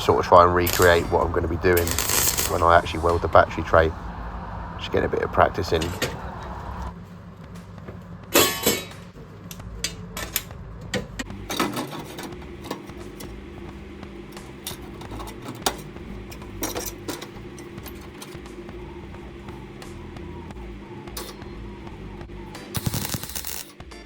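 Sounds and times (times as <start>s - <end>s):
welder crackling: 0.0s - 24.0s
welder hum: 0.0s - 24.0s.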